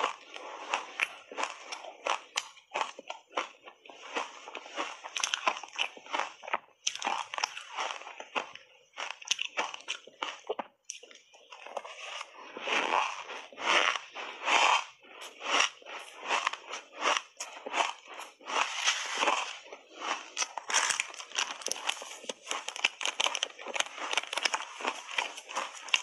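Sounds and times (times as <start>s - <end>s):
chewing crunchy shaved ice: 0.0s - 26.0s.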